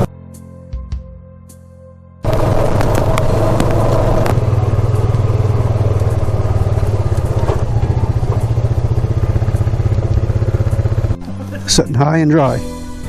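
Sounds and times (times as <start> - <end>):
atv engine running: 2.2 - 12.8.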